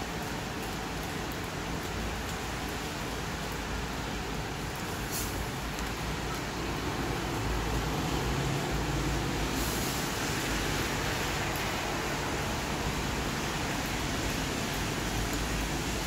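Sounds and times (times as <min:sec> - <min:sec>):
steady rain: 0:00.0 - 0:16.0
tyres hissing on wet road: 0:00.0 - 0:16.0.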